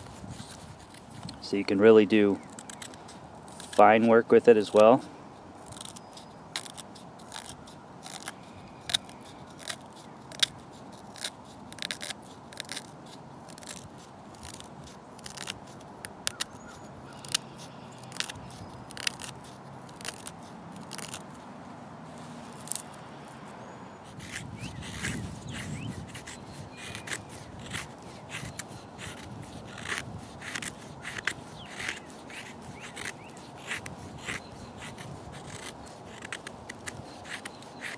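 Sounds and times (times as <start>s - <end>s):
knife shaving wooden stick: 0.0s - 21.5s, 22.2s - 22.9s, 24.1s - 37.9s.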